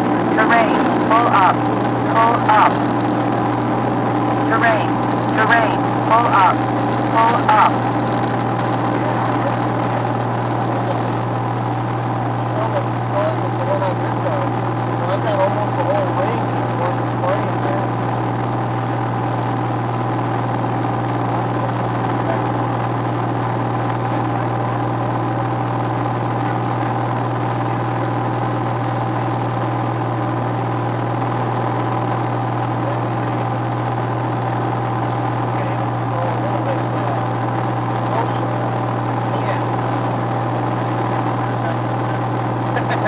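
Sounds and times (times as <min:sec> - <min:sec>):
light aircraft engine drone: 0:00.0 - 0:43.0.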